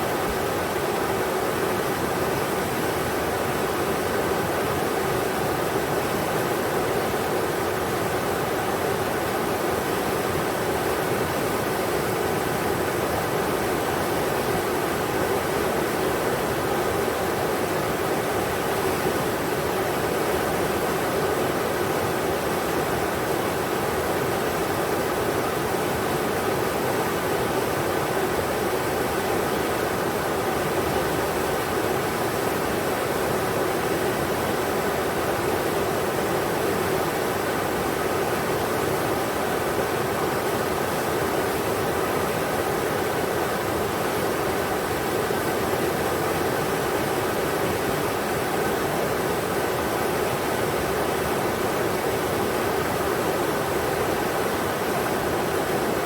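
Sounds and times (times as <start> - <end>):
rushing river rapids: 0.0 - 56.0.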